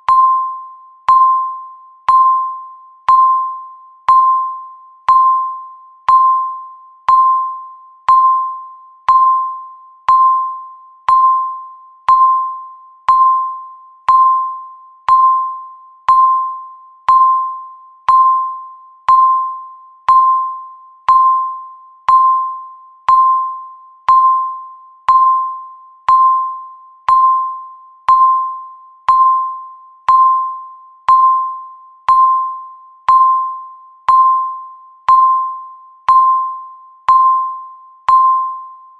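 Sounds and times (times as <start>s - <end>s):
electronic timer beeps: 0.0s - 38.9s.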